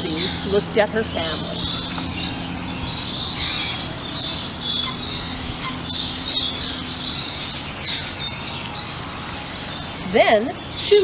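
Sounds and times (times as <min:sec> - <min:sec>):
flamingos calling: 0:00.0 - 0:11.0.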